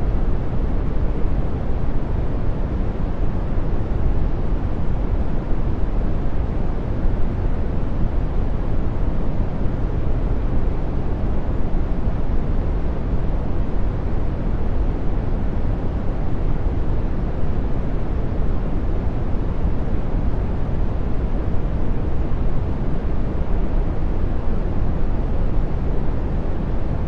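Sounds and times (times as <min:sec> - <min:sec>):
deep steady brown noise hiss: 0:00.0 - 0:27.0.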